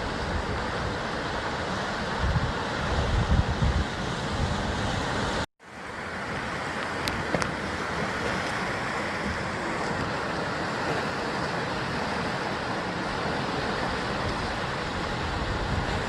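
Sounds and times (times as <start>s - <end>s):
surf rushing against rocks: 0.0s - 16.0s.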